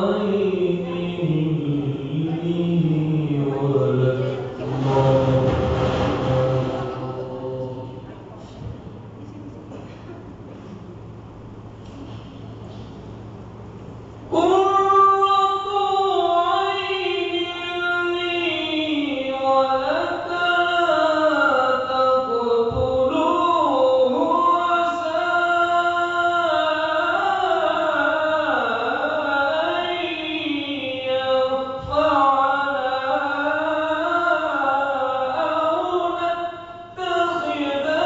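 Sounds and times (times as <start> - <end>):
man chanting through a microphone: 0.0 - 9.5, 14.2 - 38.0.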